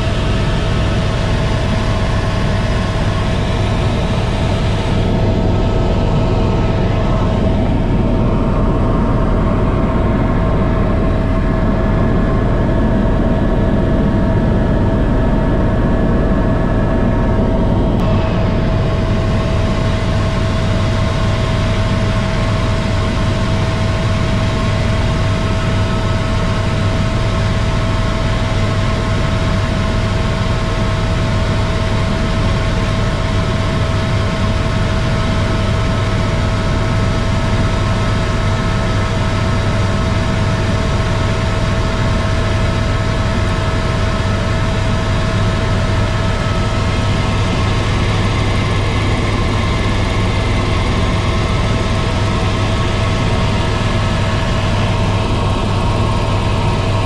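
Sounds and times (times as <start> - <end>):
high whine: 0.0 - 28.8, 40.1 - 57.0
helicopter engine and rotor drone: 0.0 - 57.0.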